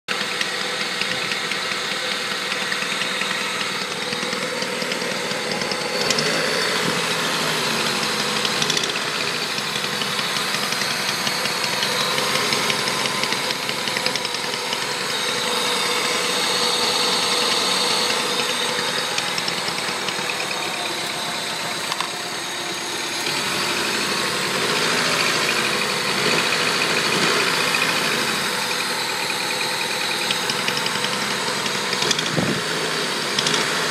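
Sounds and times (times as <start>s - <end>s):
car engine running: 0.1s - 33.9s
fast engine ticking: 0.1s - 33.9s.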